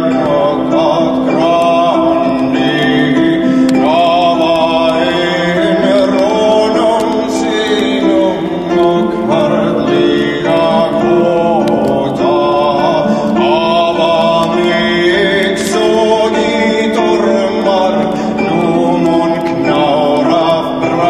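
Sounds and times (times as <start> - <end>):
person singing long sliding notes: 0.0 - 21.0
sustained instrumental tones: 0.0 - 21.0.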